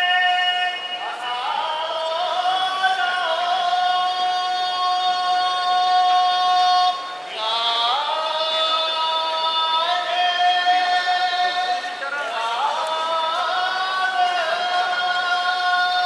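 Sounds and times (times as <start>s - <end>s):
man singing long notes: 0.0s - 16.0s.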